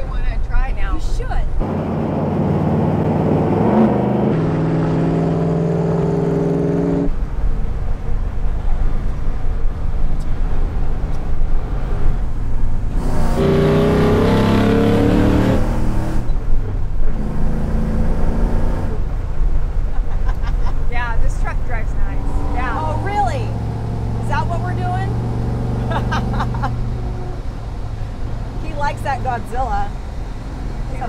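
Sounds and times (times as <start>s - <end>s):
engine pulling hard inside cab: 0.0s - 31.0s.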